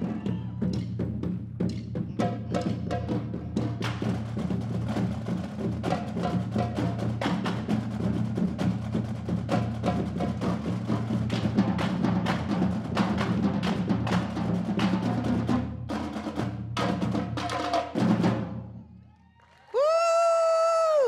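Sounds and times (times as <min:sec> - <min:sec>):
marching bass drums: 0:00.0 - 0:18.7
snare and tenor drums: 0:00.0 - 0:18.8.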